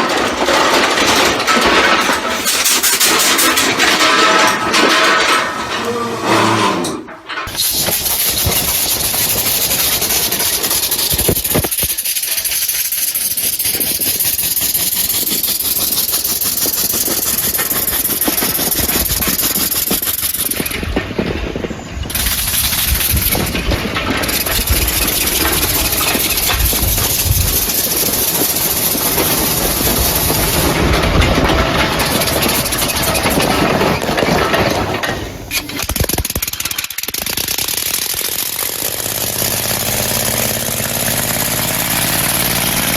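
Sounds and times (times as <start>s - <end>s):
compressed-air engine rattling: 0.0s - 42.9s.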